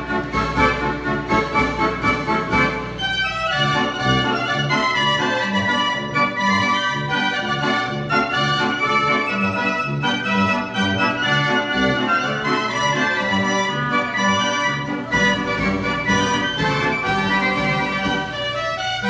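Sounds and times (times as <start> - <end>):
band organ playing a tune: 0.0 - 19.0.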